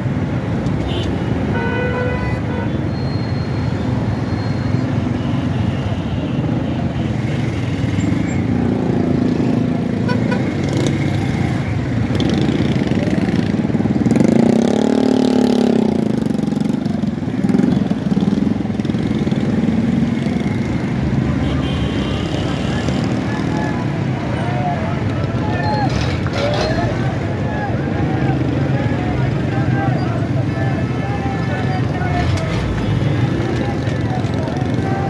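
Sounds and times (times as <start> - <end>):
road noise: 0.0 - 35.0
car and motorcycle engines running: 6.2 - 35.0.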